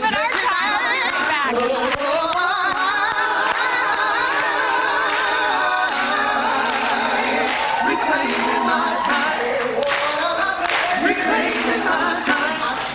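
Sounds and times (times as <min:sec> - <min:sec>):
man singing a cappella: 0:00.5 - 0:12.9.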